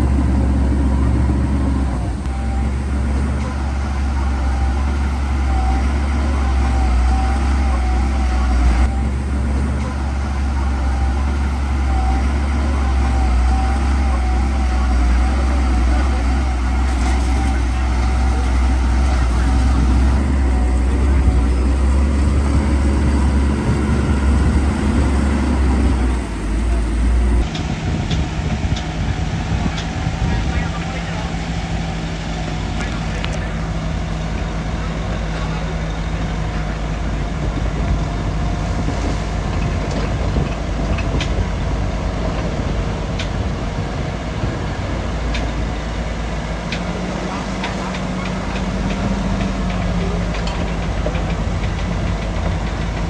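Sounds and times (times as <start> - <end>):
diesel engine running deep: 0.0 - 53.0
steel tracks rattling: 0.0 - 53.0.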